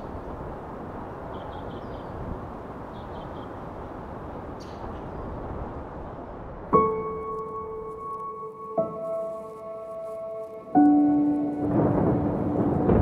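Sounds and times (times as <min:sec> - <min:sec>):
low rushing outdoor ambience: 0:00.0 - 0:13.0.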